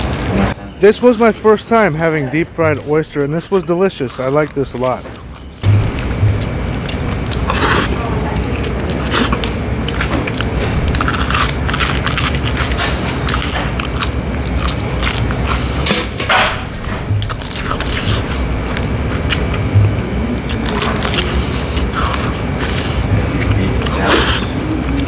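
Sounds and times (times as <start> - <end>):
chewing crunchy fried food: 0.0 - 0.6, 1.6 - 25.0.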